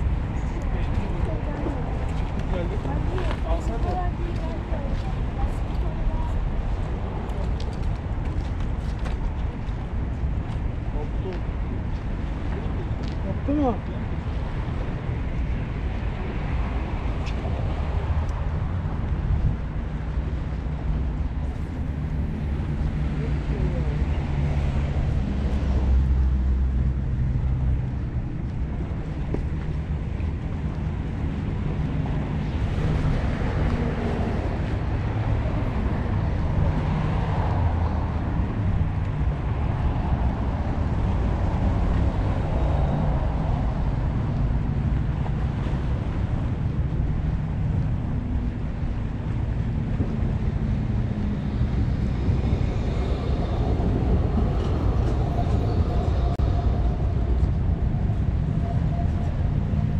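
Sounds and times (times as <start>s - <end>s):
road traffic hum: 0.0s - 59.9s
wind buffeting microphone: 0.0s - 59.9s.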